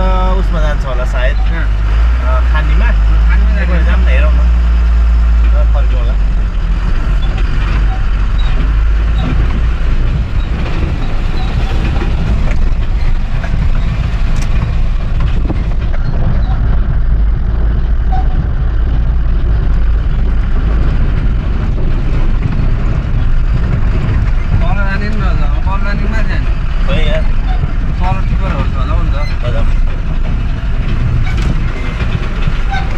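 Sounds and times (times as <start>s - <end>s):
truck diesel engine rumbling: 0.0s - 32.9s
knocks and rattles: 0.8s - 32.9s.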